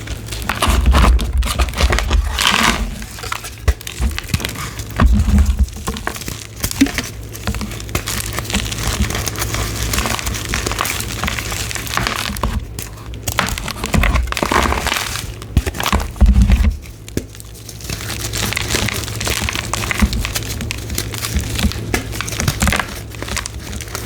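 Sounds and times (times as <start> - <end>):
chalk blocks being crushed: 0.0 - 24.0.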